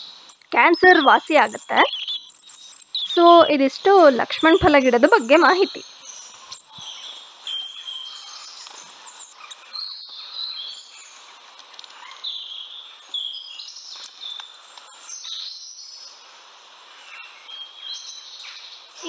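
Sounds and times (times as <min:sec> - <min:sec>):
faint steady outdoor hiss: 0:00.0 - 0:19.0
small birds chirping: 0:00.0 - 0:19.0.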